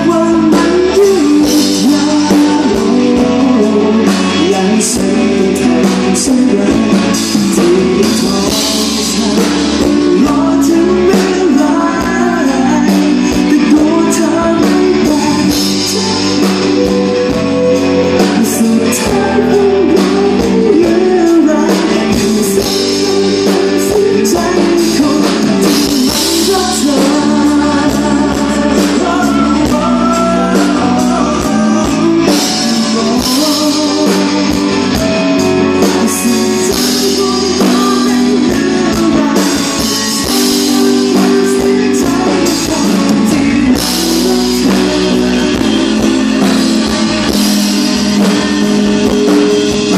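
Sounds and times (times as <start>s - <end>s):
drums: 0.0s - 49.9s
electric guitar: 0.0s - 49.9s
male singer: 0.0s - 49.9s.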